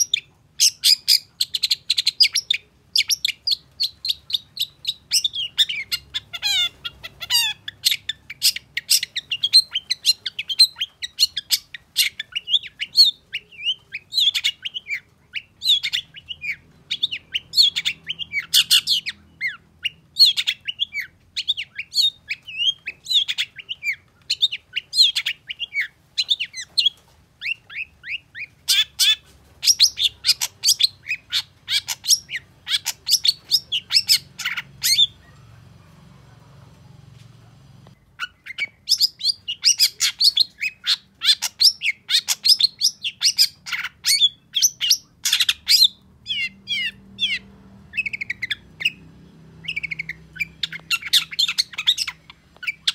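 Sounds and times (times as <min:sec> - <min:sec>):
bird harsh chattering song: 0:00.0 - 0:35.6, 0:38.0 - 0:49.0, 0:49.6 - 0:52.9.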